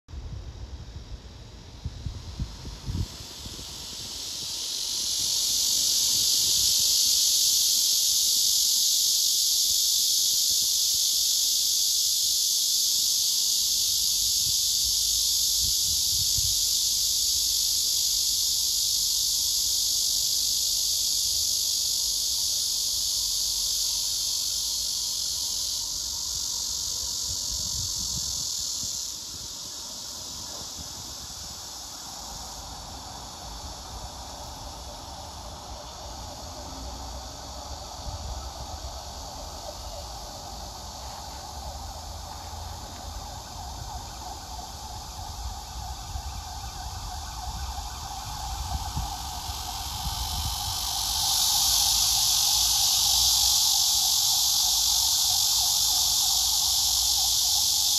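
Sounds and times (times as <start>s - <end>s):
cicadas buzzing: 0.1s - 57.9s.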